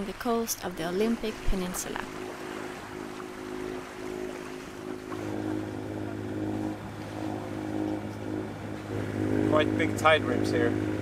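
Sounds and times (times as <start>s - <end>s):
boat engine humming: 0.0s - 11.0s
water rushing: 0.0s - 11.0s.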